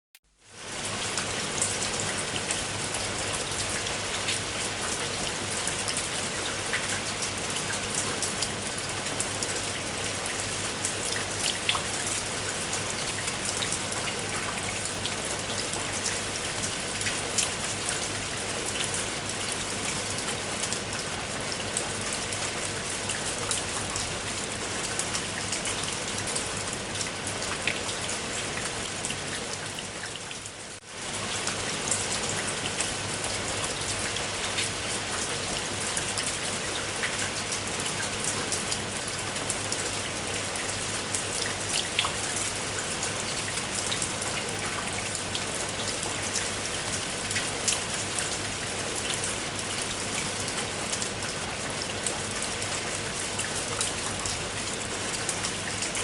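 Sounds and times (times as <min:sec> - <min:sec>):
steady rain patter: 0:00.2 - 0:56.0.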